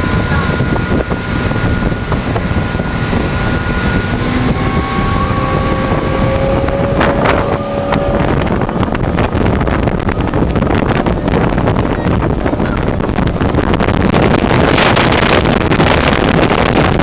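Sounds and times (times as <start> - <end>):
faint boat engine whine: 0.0 - 17.0
wind buffeting microphone: 0.0 - 17.0.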